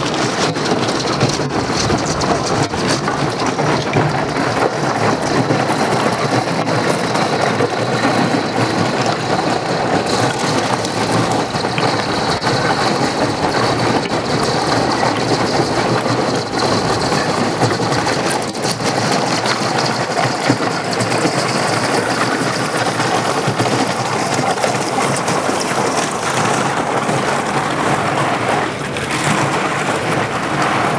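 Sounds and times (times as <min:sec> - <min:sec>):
ice crackling against boat hull: 0:00.0 - 0:30.9.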